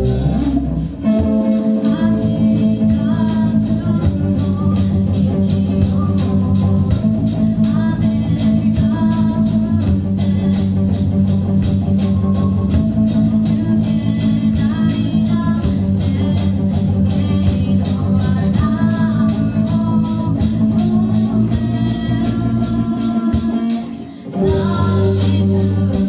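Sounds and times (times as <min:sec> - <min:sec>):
cymbals keeping a beat: 0:00.0 - 0:26.0
rock band playing live: 0:00.0 - 0:26.0.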